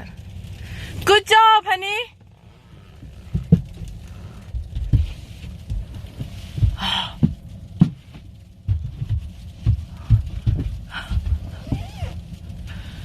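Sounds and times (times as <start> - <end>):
low thuds: 2.2 - 13.0.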